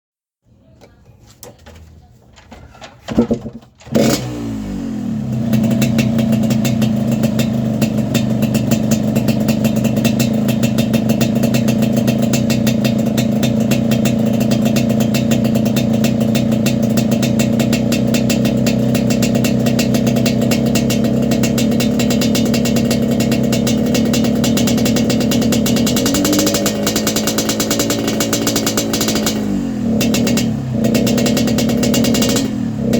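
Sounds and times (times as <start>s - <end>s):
motorcycle engine idling: 4.0s - 32.9s.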